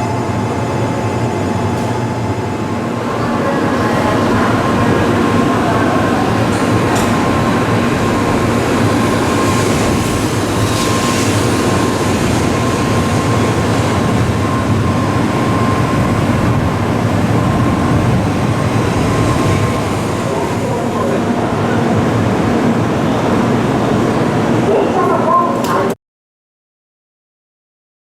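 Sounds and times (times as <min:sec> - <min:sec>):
train wheels rumbling: 0:01.0 - 0:25.9
thin steady whine: 0:02.4 - 0:25.8.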